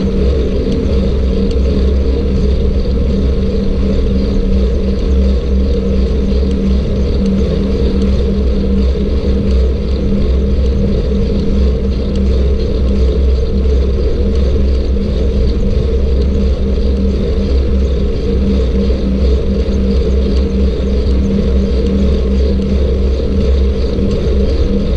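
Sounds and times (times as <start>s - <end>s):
wind rumble on microphone: 0.0s - 24.9s.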